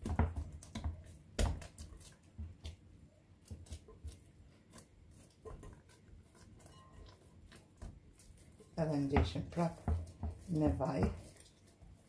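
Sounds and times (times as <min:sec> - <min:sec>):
hands kneading dough: 0:00.0 - 0:12.0.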